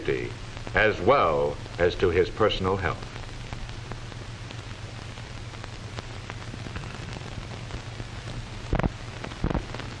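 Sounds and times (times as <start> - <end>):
film soundtrack hiss and crackle: 0.0 - 10.0
low hum: 0.0 - 10.0.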